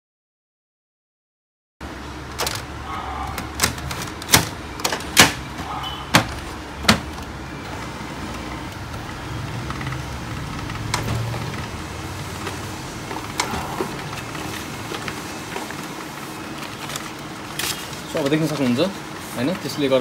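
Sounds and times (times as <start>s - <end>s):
printer humming: 1.8s - 20.0s.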